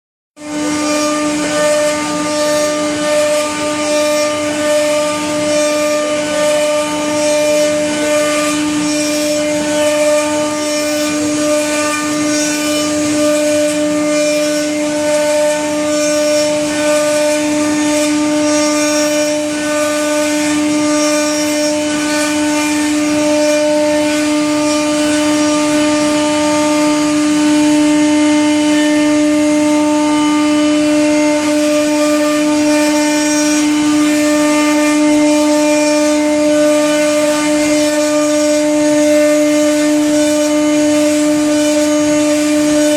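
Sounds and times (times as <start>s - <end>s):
rough cutting noise: 0.4s - 42.9s
router spindle whine: 0.4s - 42.9s.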